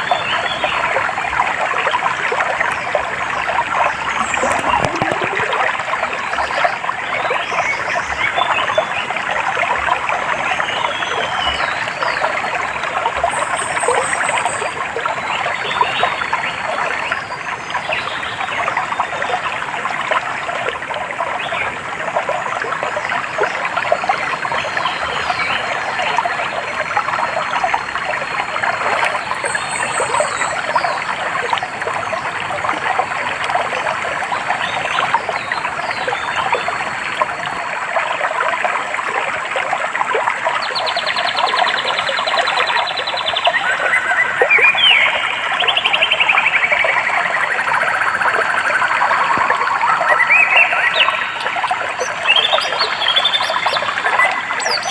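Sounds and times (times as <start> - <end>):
stream water babbling: 0.0 - 54.9.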